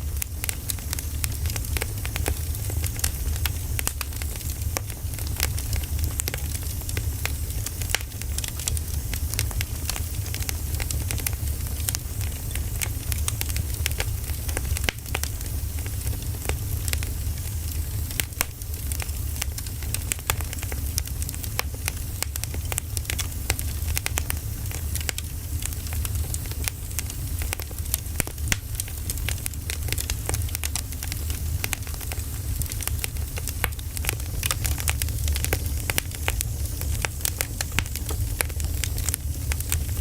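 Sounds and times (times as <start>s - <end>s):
firewood crackling and popping: 0.0s - 40.0s.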